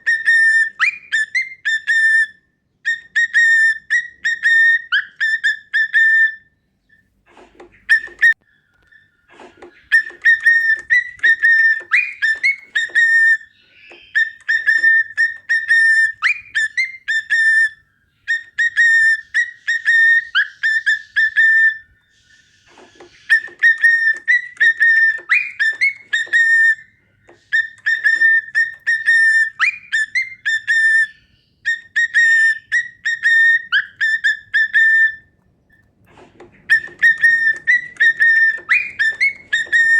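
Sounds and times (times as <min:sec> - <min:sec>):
cockatiel whistling: 0:00.0 - 0:35.4, 0:36.2 - 0:39.9.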